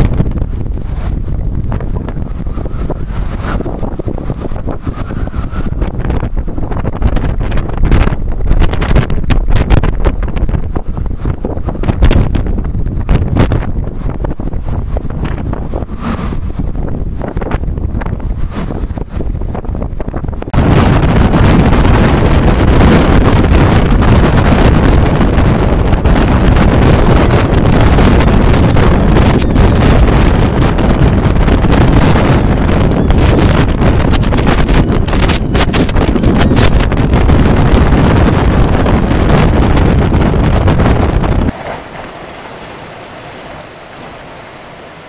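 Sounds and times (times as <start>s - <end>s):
steady rushing noise: 0.0s - 45.0s
wind buffeting microphone: 0.0s - 45.0s.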